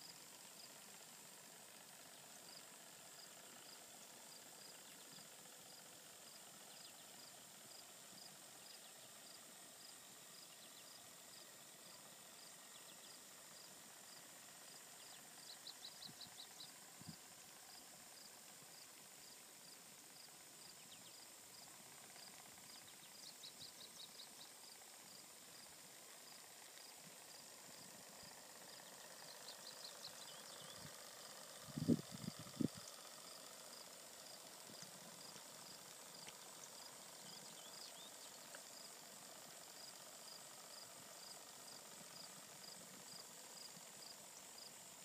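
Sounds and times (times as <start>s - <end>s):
faint outdoor ambience: 0.0s - 45.0s.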